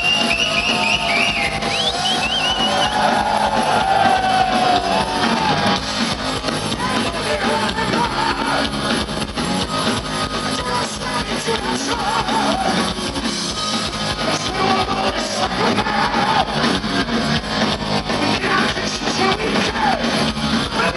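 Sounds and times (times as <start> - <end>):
heavy metal band playing: 0.0 - 20.9.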